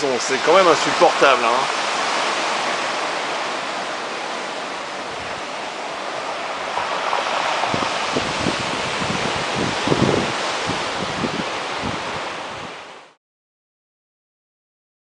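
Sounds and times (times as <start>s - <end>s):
surf breaking on rocks: 0.0s - 13.2s
wind buffeting microphone: 0.1s - 13.0s.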